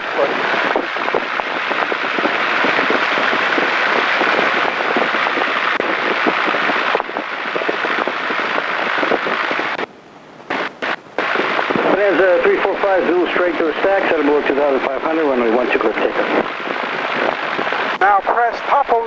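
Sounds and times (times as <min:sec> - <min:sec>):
airplane engine and propeller: 0:00.0 - 0:19.0.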